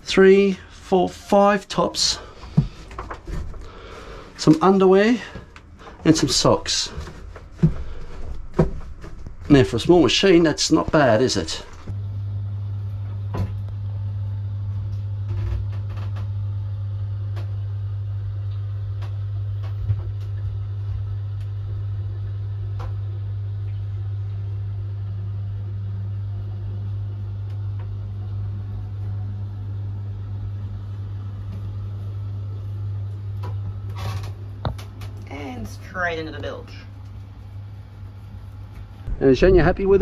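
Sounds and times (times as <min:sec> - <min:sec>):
washing machine humming: 0:00.0 - 0:40.0.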